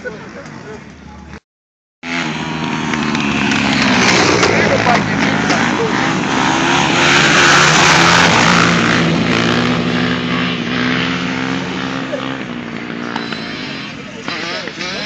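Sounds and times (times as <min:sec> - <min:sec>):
dirt bike engines passing: 0:00.0 - 0:01.4, 0:02.0 - 0:15.0.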